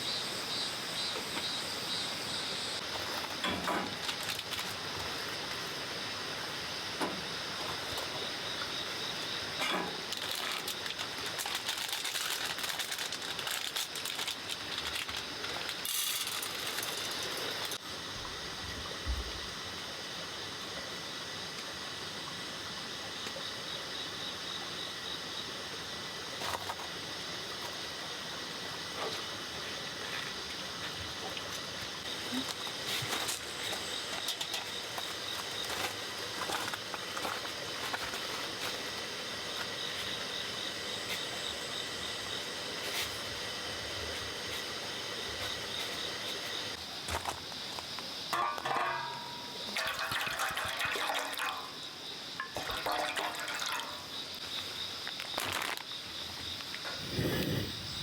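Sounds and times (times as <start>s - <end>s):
continuous hiss: 0.0s - 58.0s
insects chirring: 0.0s - 58.0s.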